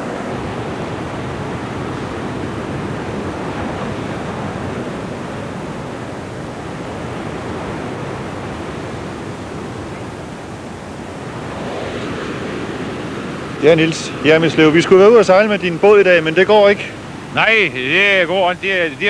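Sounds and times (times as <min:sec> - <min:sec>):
heavy surf breaking: 0:00.0 - 0:19.0
strong wind: 0:00.0 - 0:19.0.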